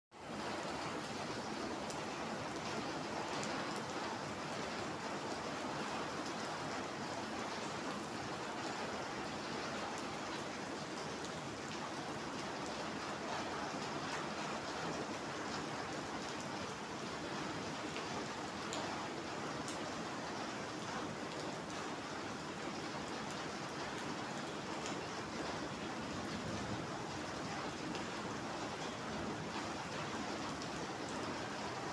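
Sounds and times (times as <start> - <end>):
rain on paving and puddles: 0.1 - 31.9.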